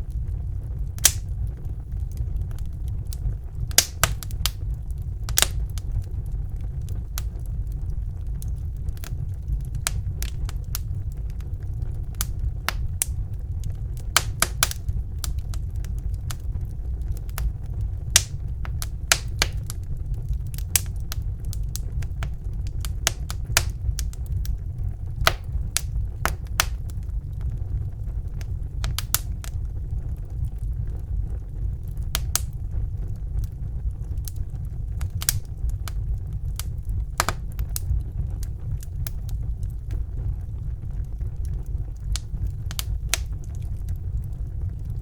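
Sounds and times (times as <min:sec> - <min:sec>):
fire rumbling: 0:00.0 - 0:45.0
logs crackling and popping: 0:00.0 - 0:45.0.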